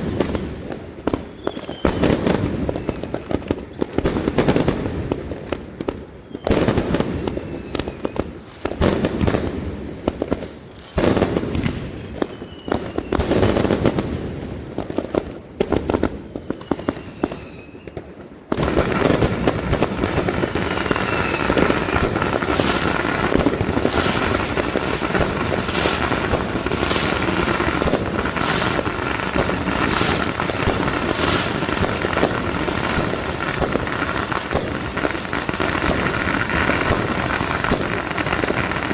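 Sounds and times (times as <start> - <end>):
fireworks booming: 0.0 - 38.9
fireworks crackling barrage: 0.0 - 38.9
firework whistles: 1.1 - 9.5, 11.0 - 14.0, 16.2 - 38.9.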